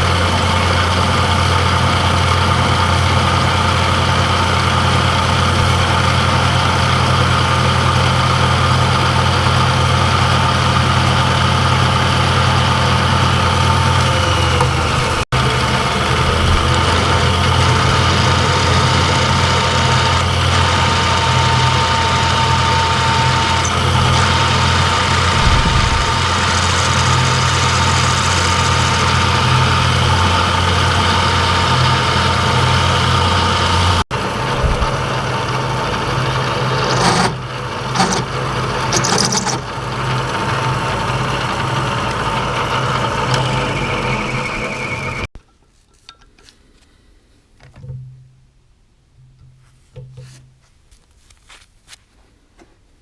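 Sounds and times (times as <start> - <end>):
machine tool humming: 0.0 - 45.3.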